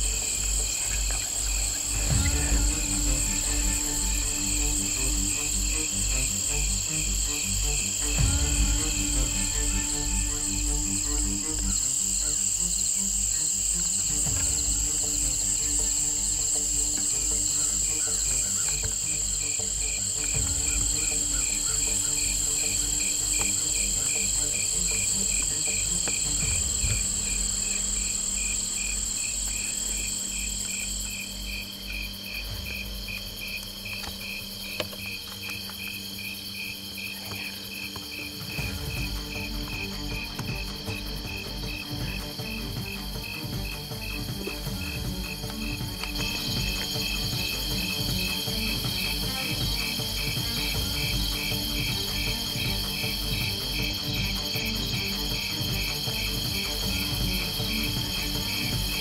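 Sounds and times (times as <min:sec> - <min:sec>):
crickets chirping: 0:00.0 - 0:59.0
high-pitched insect drone: 0:00.0 - 0:59.0
soft background music: 0:00.0 - 0:59.0.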